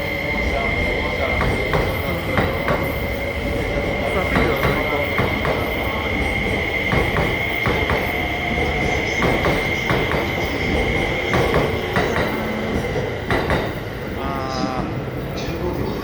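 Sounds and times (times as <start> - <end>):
high wheel squeal: 0.0 - 16.0
passenger train rolling: 0.0 - 16.0
wheels clicking over rail joints: 0.3 - 14.1.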